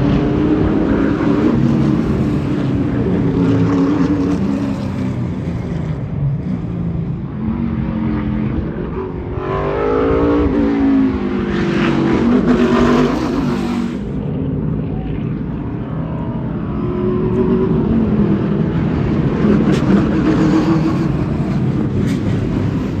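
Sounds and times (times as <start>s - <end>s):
race car engines passing by: 0.0s - 23.0s.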